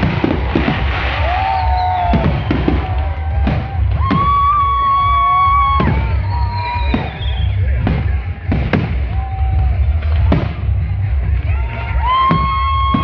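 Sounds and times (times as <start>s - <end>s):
fireworks bangs: 0.0s - 11.4s, 12.0s - 13.0s
music with steady drum beat: 0.0s - 13.0s.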